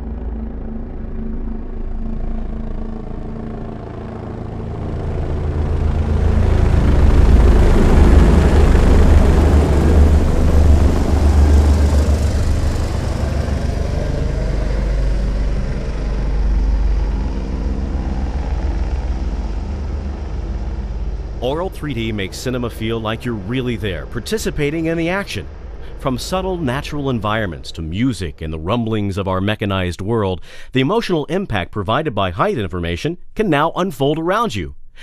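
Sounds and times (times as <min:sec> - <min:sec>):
helicopter rotor chop: 0:00.0 - 0:29.9.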